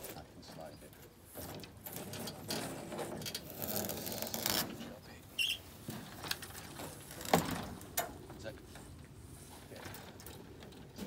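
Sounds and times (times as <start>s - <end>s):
objects scraping and rubbing: 0.0s - 11.0s.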